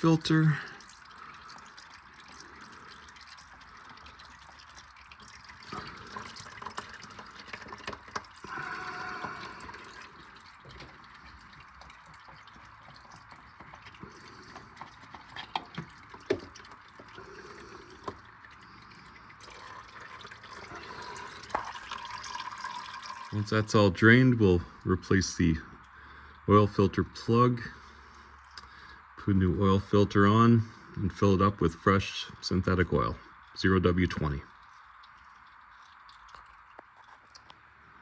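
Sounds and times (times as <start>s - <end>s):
oil draining into pan: 0.0s - 24.8s, 30.8s - 38.0s.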